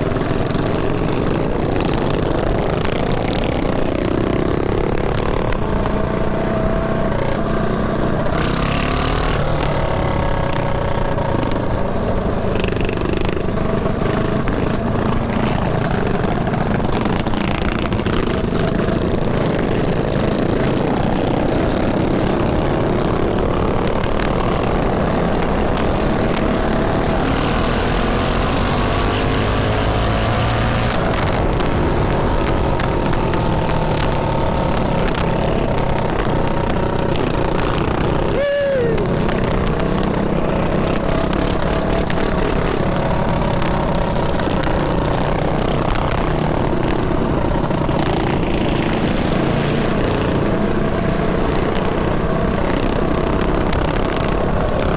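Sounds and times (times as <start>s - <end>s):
mini bike engines revving: 0.0s - 54.9s.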